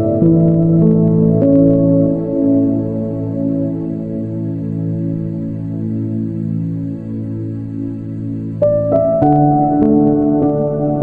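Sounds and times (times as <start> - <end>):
calm new-age music: 0.0 - 11.0.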